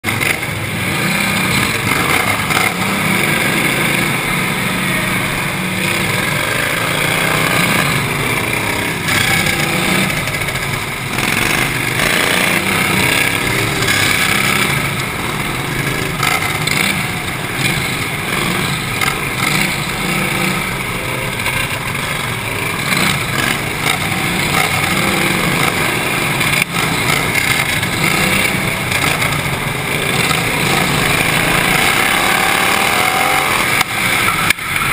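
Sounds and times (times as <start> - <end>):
lawnmower engine at high revs: 0.0 - 34.9.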